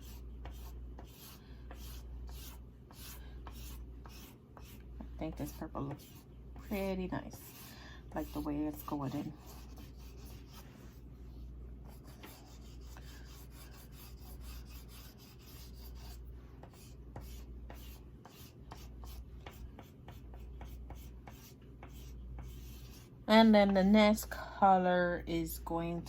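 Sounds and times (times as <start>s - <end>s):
oil pastel scratching on paper: 0.0s - 23.2s.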